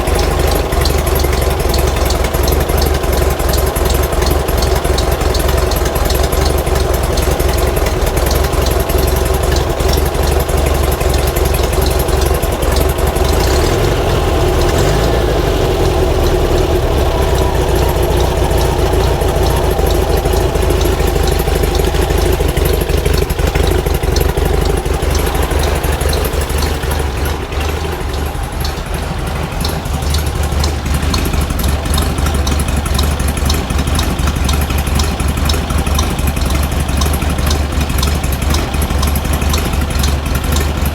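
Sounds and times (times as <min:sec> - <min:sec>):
van engine idling: 0:00.0 - 0:40.9.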